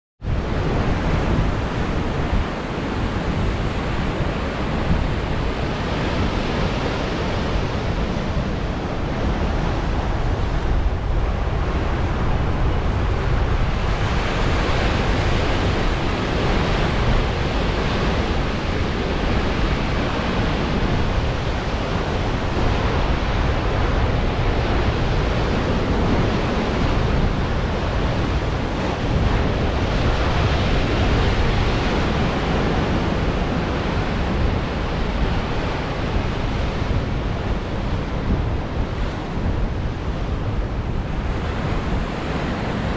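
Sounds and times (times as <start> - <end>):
wind buffeting microphone: 0.2 - 42.9
ocean surf breaking: 0.3 - 42.9.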